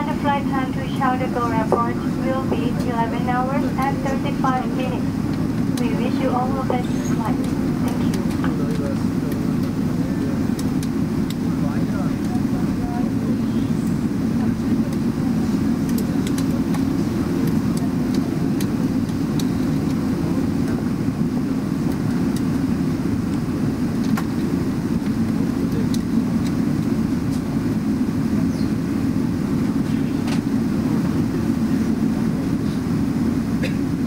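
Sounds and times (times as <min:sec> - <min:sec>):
airplane cabin hum and rumble: 0:00.0 - 0:34.0.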